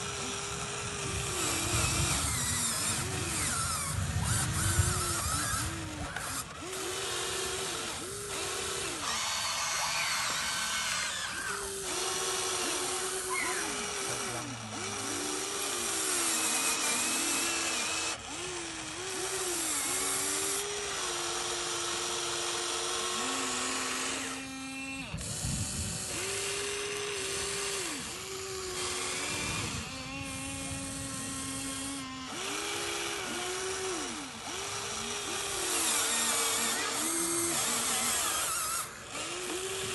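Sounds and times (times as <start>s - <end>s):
model excavator motors whining: 0.0s - 39.9s.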